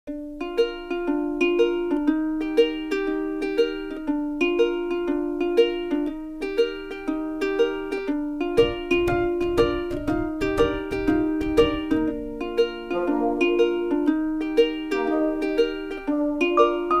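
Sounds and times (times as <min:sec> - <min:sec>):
light bright melody: 0:00.1 - 0:17.0.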